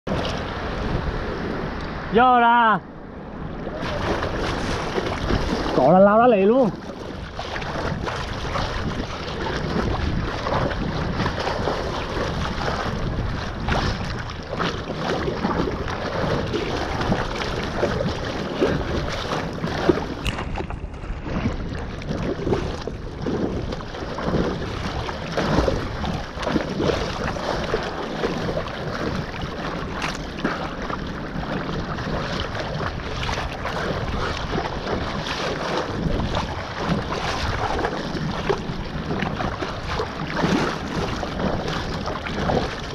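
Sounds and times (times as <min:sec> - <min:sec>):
wind buffeting microphone: 0:00.0 - 0:42.9
sea water sloshing and splashing: 0:00.1 - 0:02.2, 0:03.0 - 0:42.9.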